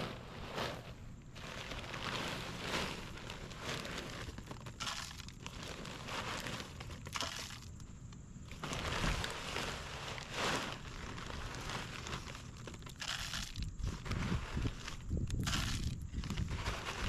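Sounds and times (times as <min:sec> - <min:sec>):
plastic bag crinkling: 0:00.0 - 0:17.0
stones rattling: 0:01.3 - 0:17.0.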